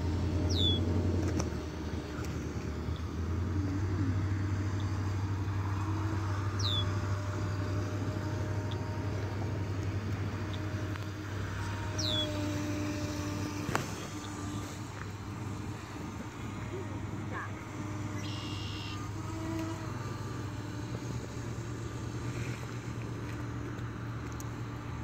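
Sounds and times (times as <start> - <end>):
electric motor hum: 0.0 - 25.0.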